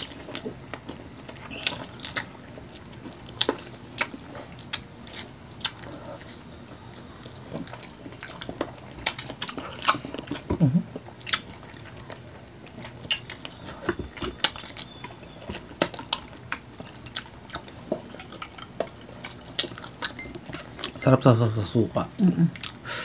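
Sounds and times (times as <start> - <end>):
people chewing and sucking food: 0.0 - 21.8, 22.4 - 23.0.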